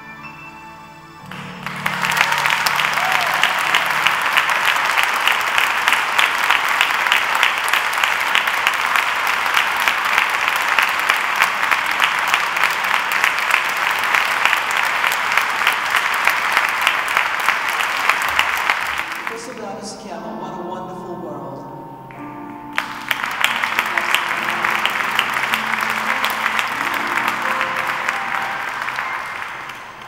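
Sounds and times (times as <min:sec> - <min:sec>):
audience applauding: 0:01.2 - 0:20.0, 0:22.7 - 0:30.0.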